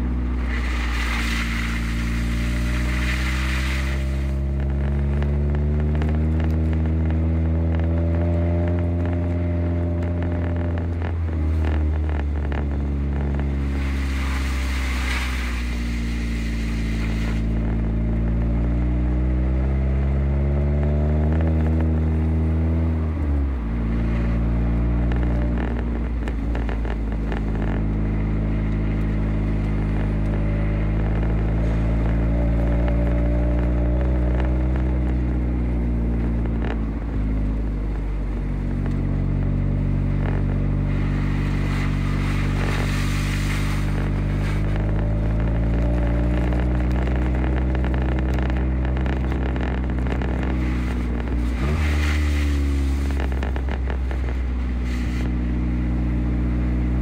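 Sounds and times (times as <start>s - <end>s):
tyres crunching over snow: 0.0s - 19.2s, 23.2s - 57.0s
car engine running: 0.0s - 57.0s.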